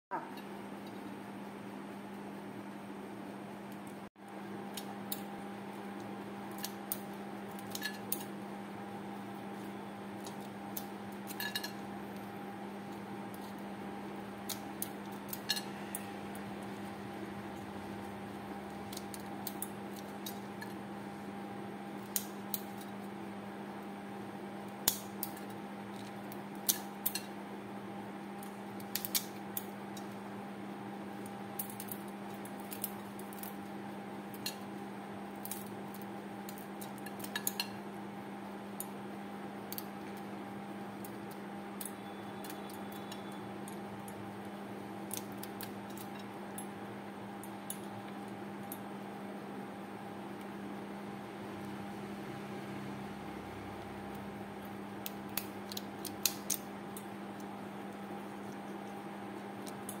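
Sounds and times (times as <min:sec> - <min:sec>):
steady background hum: 0:00.1 - 1:00.0.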